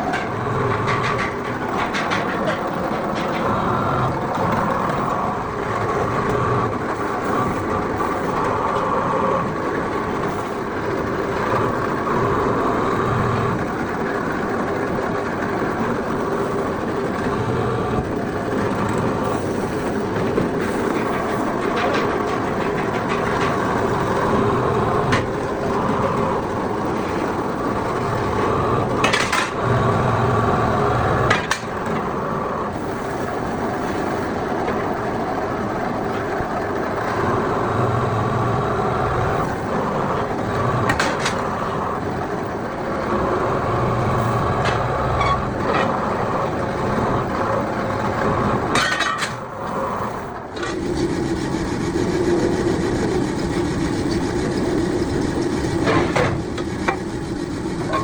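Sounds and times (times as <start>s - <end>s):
workshop machinery humming: 0.0s - 58.0s.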